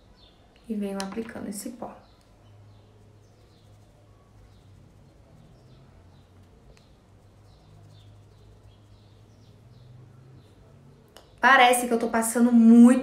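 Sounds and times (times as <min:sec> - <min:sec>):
small bird chirping: 0:00.0 - 0:11.4.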